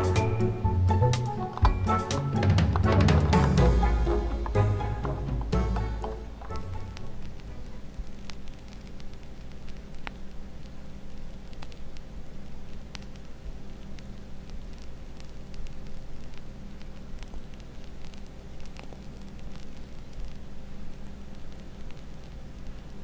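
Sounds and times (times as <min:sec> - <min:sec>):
steady low hum: 0:00.0 - 0:23.0
small crackles: 0:01.1 - 0:23.0.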